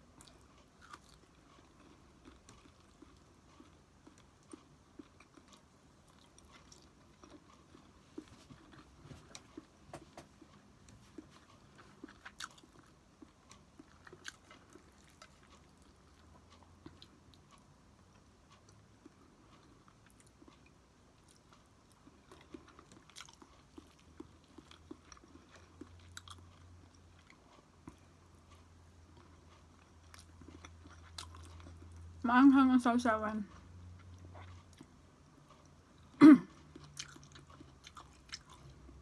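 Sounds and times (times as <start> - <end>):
person chewing: 0.0 - 32.2, 33.6 - 39.0.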